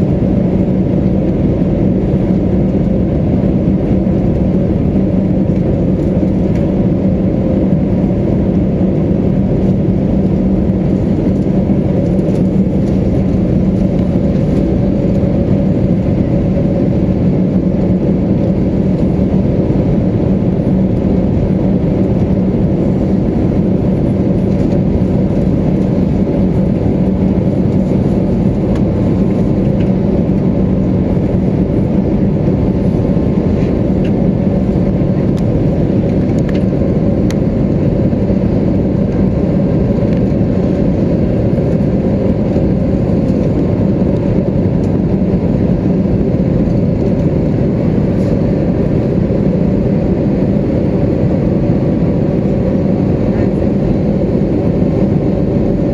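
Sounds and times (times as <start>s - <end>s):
airplane cabin engine hum: 0.0s - 55.9s.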